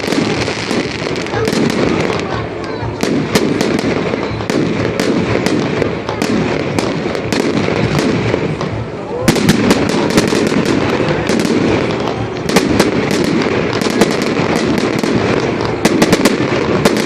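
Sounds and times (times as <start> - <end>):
fireworks crackling and popping: 0.0 - 17.0
murmur of crowd voices: 0.0 - 17.0.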